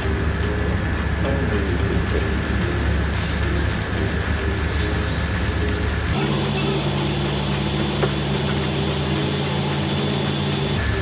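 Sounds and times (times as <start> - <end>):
beef sizzling on electric grill: 0.0 - 11.0
steady low hum: 0.0 - 11.0.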